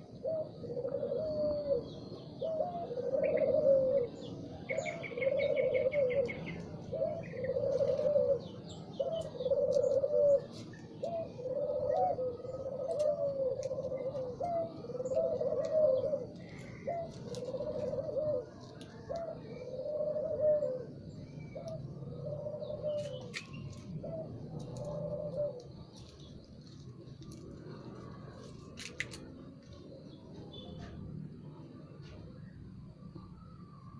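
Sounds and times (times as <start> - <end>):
dove cooing: 0.0 - 32.2
small birds chirping: 0.0 - 33.4.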